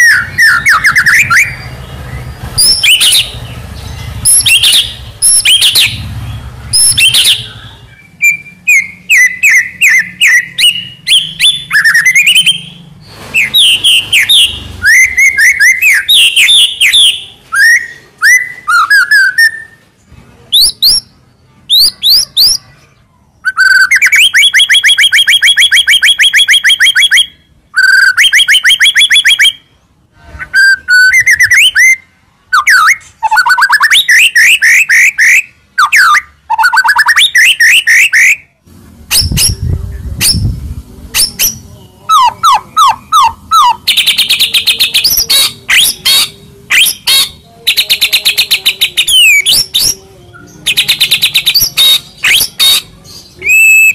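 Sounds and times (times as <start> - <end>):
songbird singing rapid notes: 0.0 - 29.7, 39.1 - 53.9.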